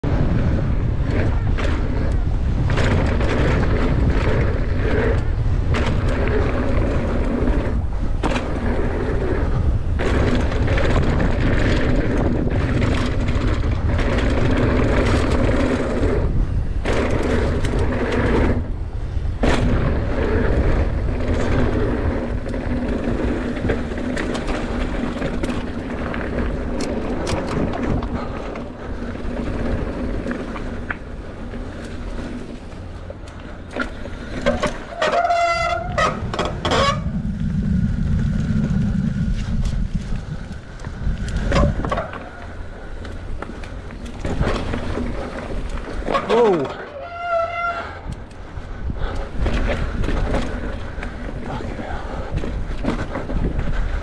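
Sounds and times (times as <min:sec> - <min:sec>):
low rumble: 0:00.0 - 0:54.0
mountain bike rattling and knocking: 0:00.0 - 0:54.0.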